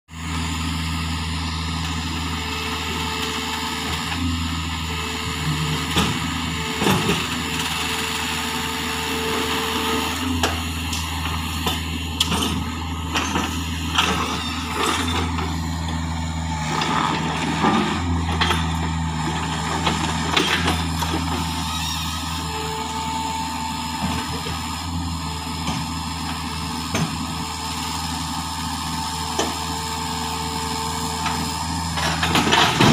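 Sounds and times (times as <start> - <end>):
excavator diesel engine running: 0.1 - 32.9.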